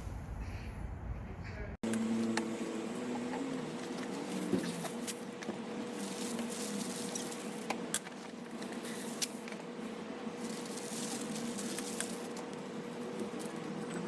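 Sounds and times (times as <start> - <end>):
wood fire burning: 2.3 - 14.0.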